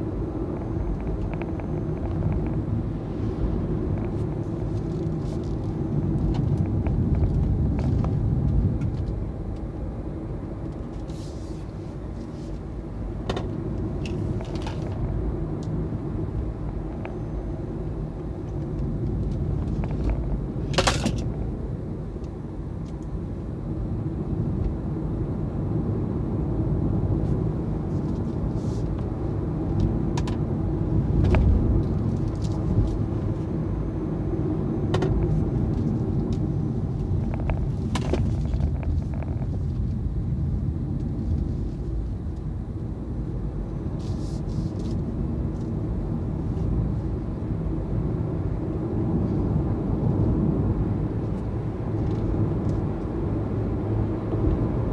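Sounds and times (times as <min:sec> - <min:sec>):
road and tyre noise: 0:00.0 - 0:54.9.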